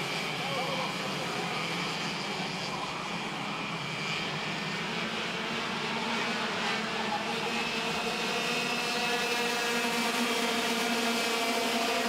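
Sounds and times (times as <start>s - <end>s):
kart engine at speed: 0.0s - 12.0s.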